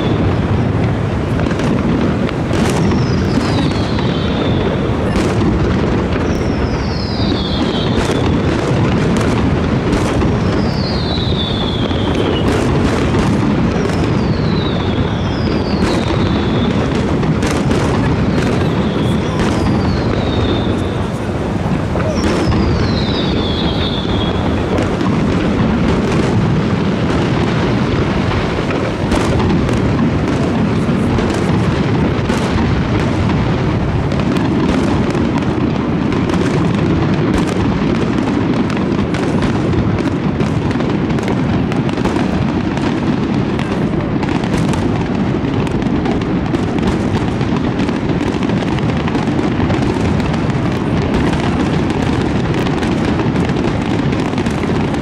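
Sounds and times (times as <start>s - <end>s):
firework shells bursting: 0.0s - 55.0s.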